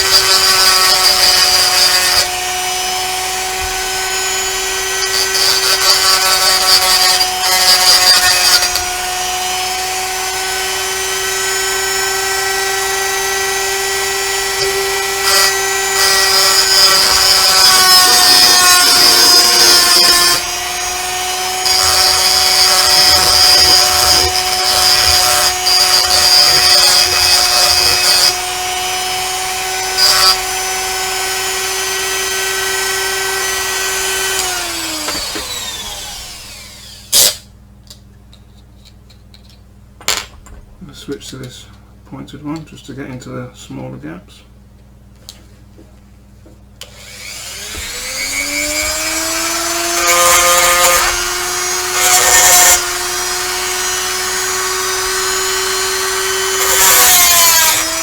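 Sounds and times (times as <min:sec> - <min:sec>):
rotary tool grinding metal: 0:00.0 - 0:37.4, 0:46.8 - 0:58.0.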